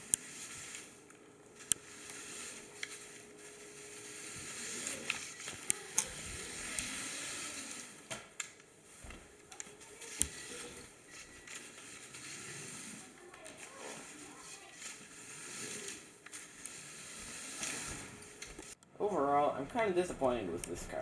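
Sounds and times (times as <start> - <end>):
toy car wheels rattling: 0.0 - 1.0, 1.6 - 8.6, 9.5 - 18.8.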